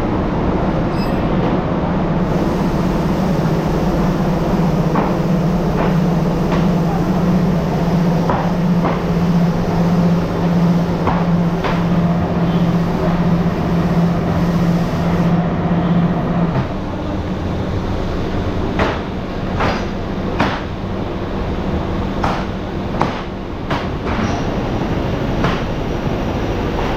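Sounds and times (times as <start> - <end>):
factory machinery humming: 0.0 - 26.9.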